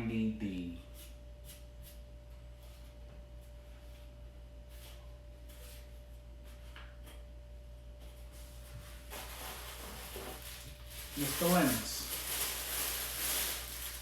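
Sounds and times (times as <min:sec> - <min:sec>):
low electrical hum: 0:00.0 - 0:14.0
thin constant whine: 0:00.0 - 0:14.0.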